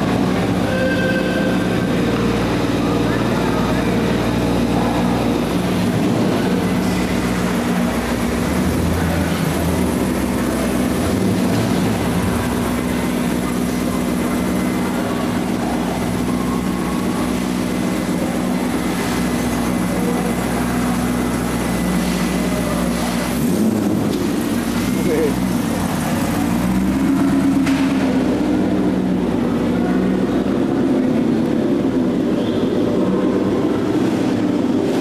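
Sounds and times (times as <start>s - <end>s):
car engine low rumble: 0.0s - 35.0s.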